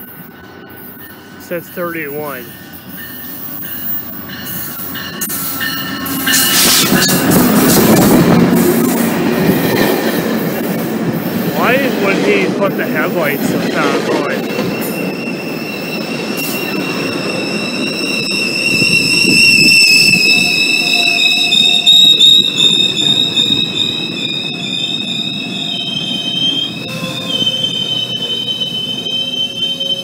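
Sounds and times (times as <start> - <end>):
train coaches rumbling past: 0.0 - 30.0
high-pitched metal squeal: 1.9 - 10.4, 13.1 - 30.0.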